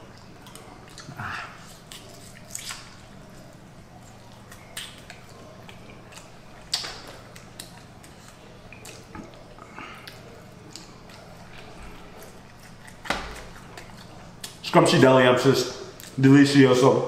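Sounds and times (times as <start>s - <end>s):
chewing and wet mouth noises: 0.0s - 14.7s, 15.9s - 16.2s
steady low hum: 0.0s - 17.0s.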